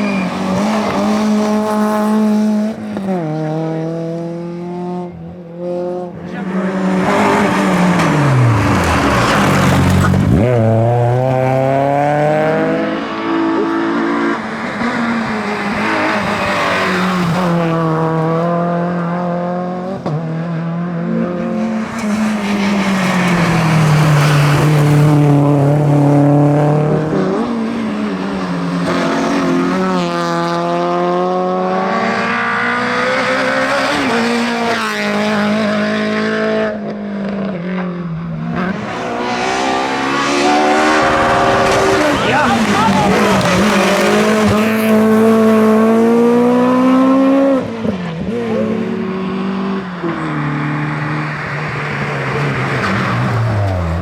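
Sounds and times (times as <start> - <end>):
rally car engine revving: 0.0 - 54.0
car passing by: 5.7 - 19.7, 21.2 - 36.7, 38.5 - 54.0.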